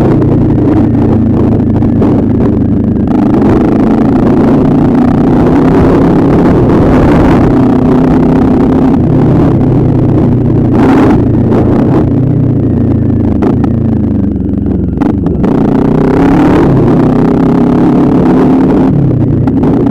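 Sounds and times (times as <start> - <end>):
motorcycle engine running: 0.0 - 19.9
wind rumble on microphone: 0.0 - 19.9.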